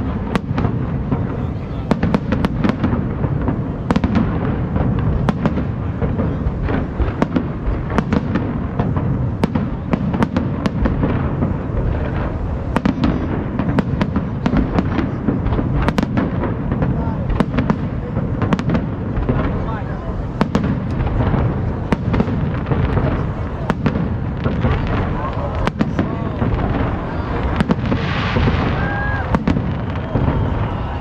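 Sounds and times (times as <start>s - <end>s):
fireworks bursting bangs: 0.0s - 31.0s
low rumble of fireworks: 0.0s - 31.0s.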